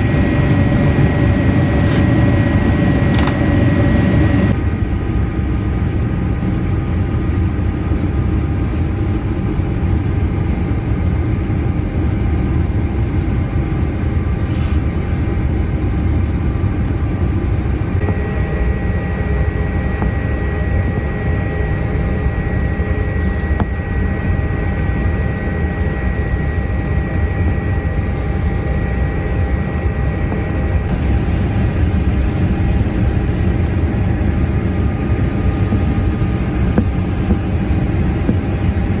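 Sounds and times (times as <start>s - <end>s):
airliner cabin rumble: 0.0s - 39.0s
faint high whine: 0.0s - 39.0s.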